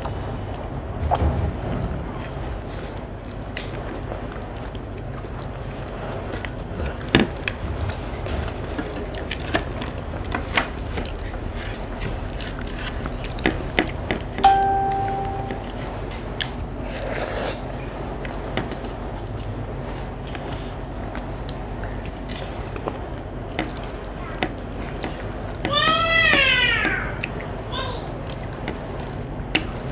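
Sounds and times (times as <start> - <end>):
steady low hum: 0.0 - 29.9
chewing: 1.7 - 25.7, 27.1 - 29.9.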